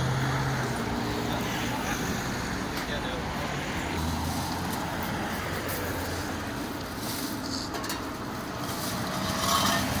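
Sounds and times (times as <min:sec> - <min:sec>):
motorway traffic noise: 0:00.0 - 0:10.0.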